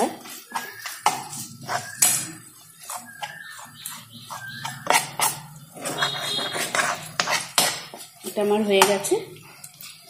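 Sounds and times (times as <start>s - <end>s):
spatula scraping frying pan: 0.0s - 10.0s.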